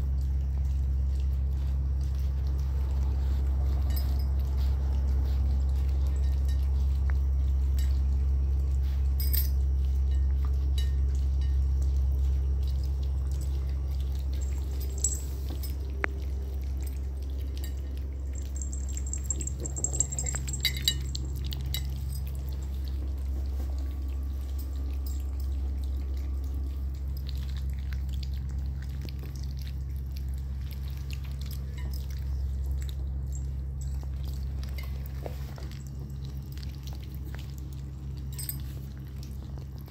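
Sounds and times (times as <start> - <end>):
puppies lapping and chewing: 0.0 - 39.9
steady low hum: 0.0 - 39.9.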